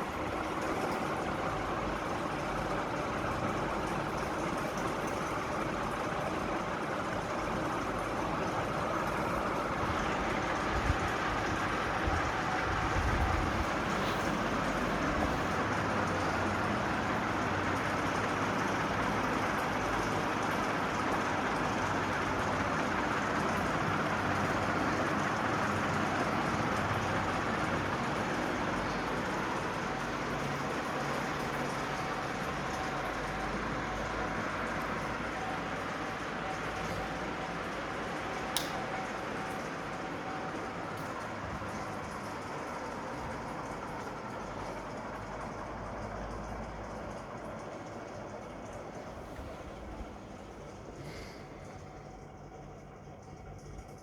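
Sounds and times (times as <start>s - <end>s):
ceiling fan air rushing: 0.0s - 54.0s
faint low motor hum: 0.0s - 54.0s.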